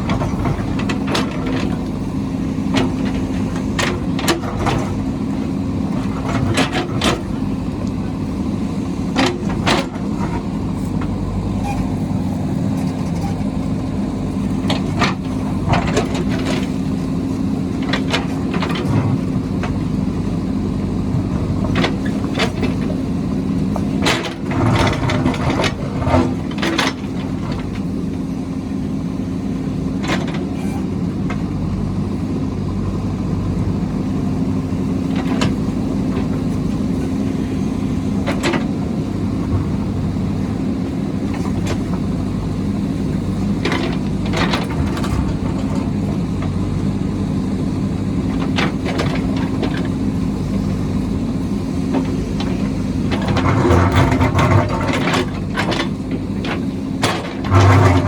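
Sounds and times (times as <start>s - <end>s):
construction machine engine running: 0.0s - 58.0s.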